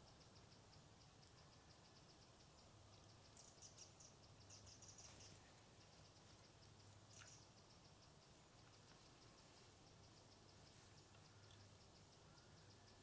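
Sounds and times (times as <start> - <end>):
insect ticking: 0.0 - 13.0.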